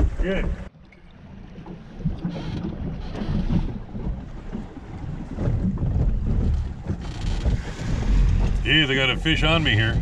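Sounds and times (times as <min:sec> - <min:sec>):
waves slapping boat hull: 0:00.0 - 0:10.0
wind buffeting microphone: 0:01.3 - 0:10.0.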